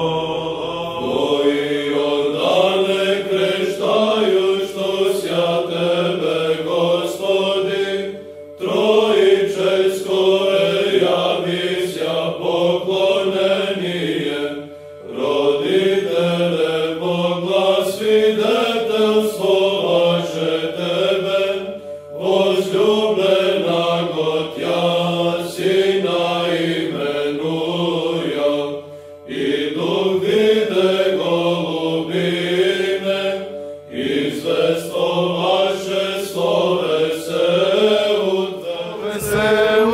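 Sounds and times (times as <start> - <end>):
chanted hymn: 0.0 - 39.9.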